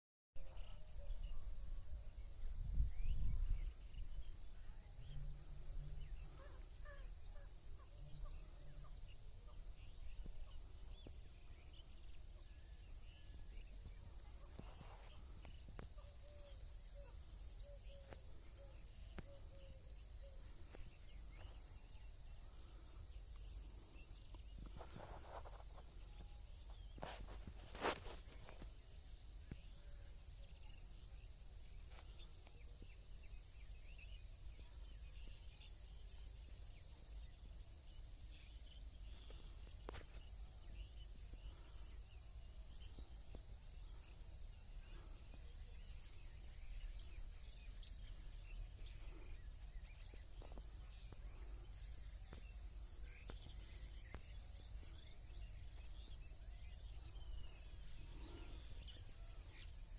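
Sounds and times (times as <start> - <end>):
crickets trilling: 0.4 - 59.9
faint bird chirps: 0.4 - 59.9.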